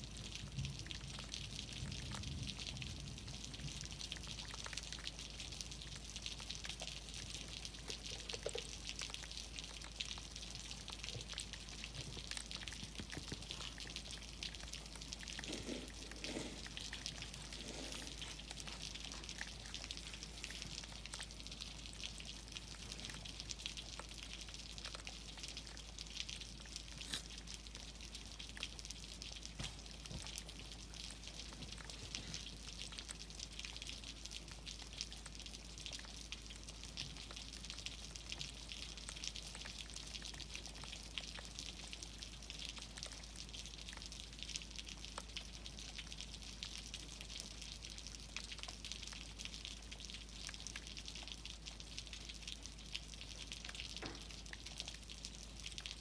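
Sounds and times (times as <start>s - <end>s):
light rain hiss: 0.0s - 56.0s
raindrops ticking on concrete: 0.0s - 56.0s.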